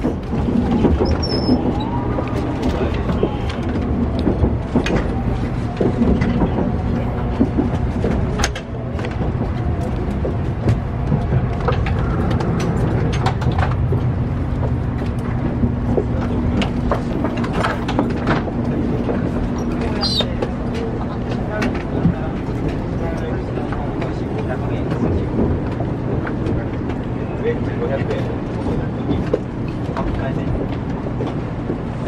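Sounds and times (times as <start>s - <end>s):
clicks and knocks from track: 0.0s - 32.0s
train car low rumble: 0.0s - 32.0s.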